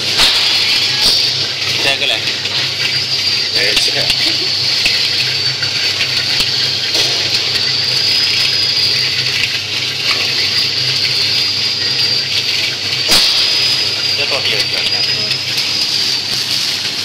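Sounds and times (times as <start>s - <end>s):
low hum of drive motor: 0.0s - 17.0s.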